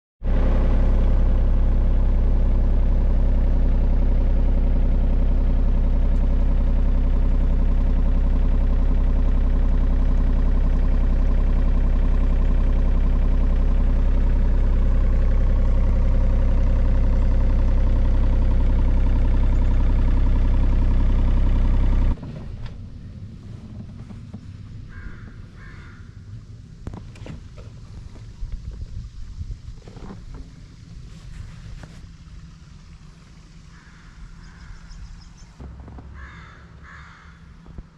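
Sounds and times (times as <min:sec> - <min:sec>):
excavator diesel engine running: 0:00.2 - 0:37.9.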